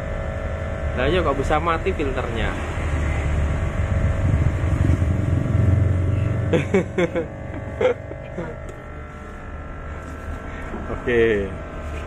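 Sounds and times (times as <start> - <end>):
faint steady whine: 0.0 - 12.0
loud low amplifier hum: 0.0 - 12.0.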